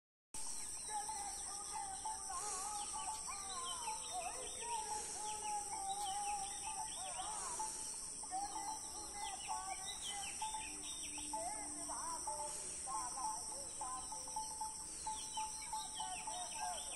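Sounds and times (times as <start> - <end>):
birds chirping and warbling: 0.4 - 16.9
high-pitched insect drone: 0.4 - 16.9.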